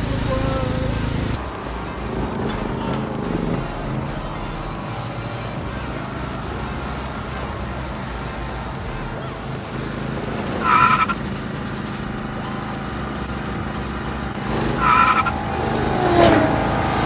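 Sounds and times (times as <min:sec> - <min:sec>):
riding lawn mower engines running: 0:00.0 - 0:17.0.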